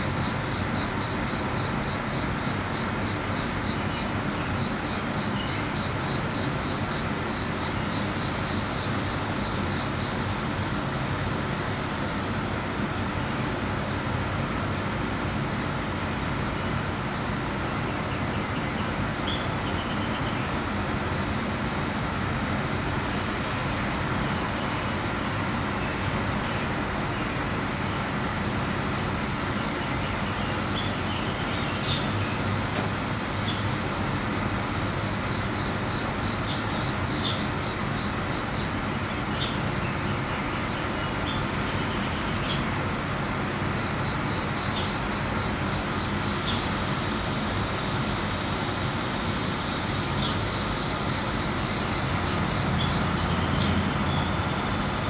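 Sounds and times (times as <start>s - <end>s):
outdoor background rumble and hiss: 0.0s - 55.0s.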